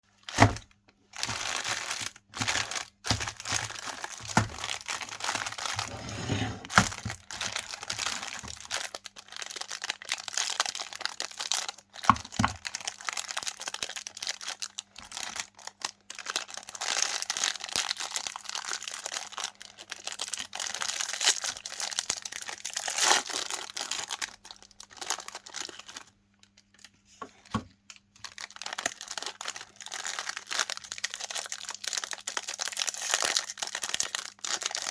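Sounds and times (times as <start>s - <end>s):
wrappers crinkling: 0.2s - 34.9s.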